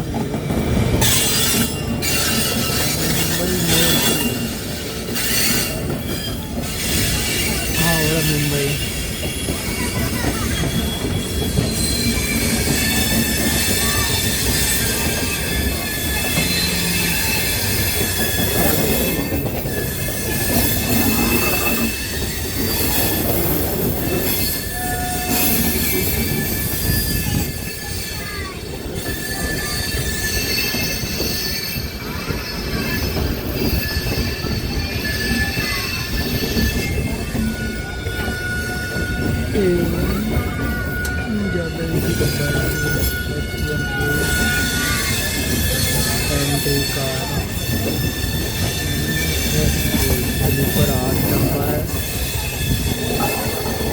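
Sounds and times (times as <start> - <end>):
train coaches rumbling and clattering: 0.0 - 53.9
train wheels squealing: 0.0 - 53.9.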